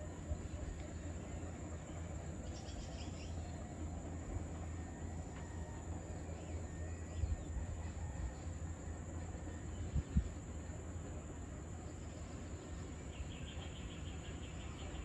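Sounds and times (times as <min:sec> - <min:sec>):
insects trilling: 0:00.0 - 0:15.0
low steady rumble: 0:00.0 - 0:15.0.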